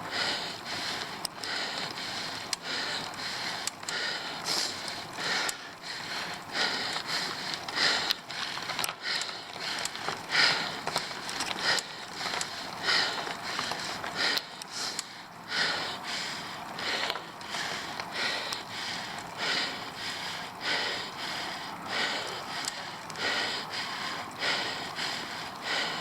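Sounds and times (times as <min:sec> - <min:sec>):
bike clicks: 0:00.0 - 0:26.0
cyclist breathing hard: 0:00.0 - 0:26.0.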